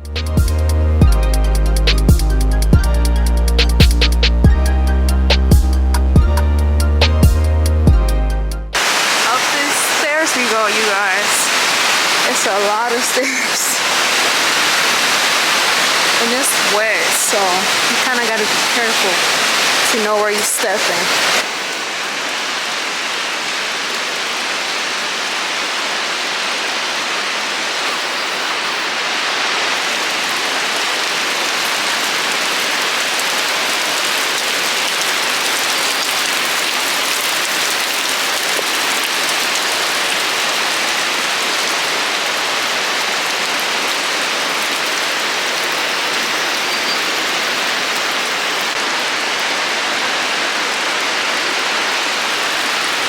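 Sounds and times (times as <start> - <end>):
falling water hissing: 8.8 - 53.0.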